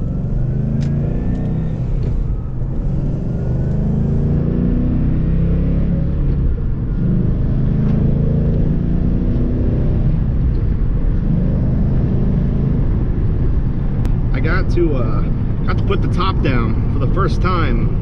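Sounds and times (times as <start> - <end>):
car engine driving: 0.0 - 18.0.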